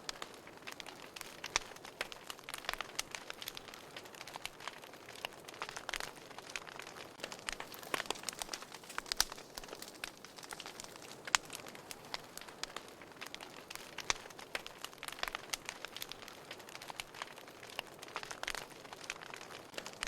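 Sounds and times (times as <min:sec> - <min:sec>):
soft fire hiss: 0:00.0 - 0:20.0
wood fire crackling and popping: 0:00.0 - 0:20.0.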